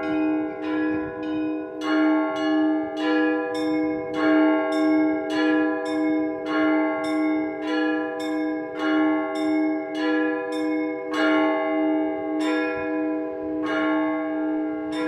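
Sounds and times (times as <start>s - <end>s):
church bells ringing: 0.0s - 15.0s
steady low bell tone: 0.0s - 15.0s.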